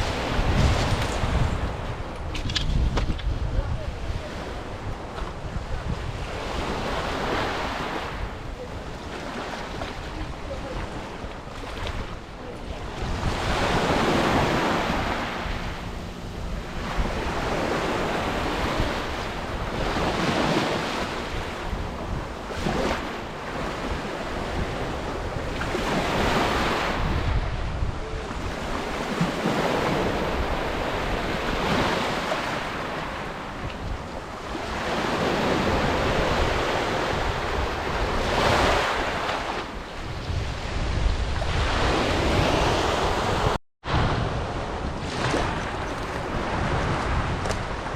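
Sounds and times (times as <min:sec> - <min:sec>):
wind rumbling on microphone: 0:00.0 - 0:47.9.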